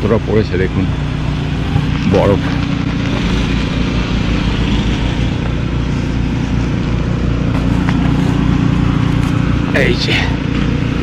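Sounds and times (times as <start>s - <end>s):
snow blowers engine drone: 0.0s - 11.0s.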